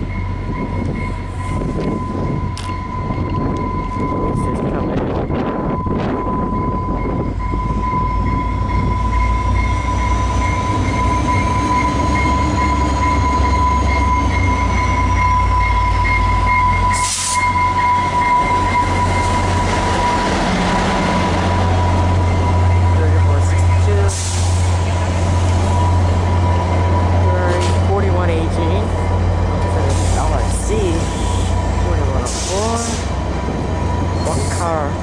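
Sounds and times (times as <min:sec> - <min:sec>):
diesel locomotive engine rumbling: 0:00.0 - 0:35.0
steady high tone: 0:00.0 - 0:35.0.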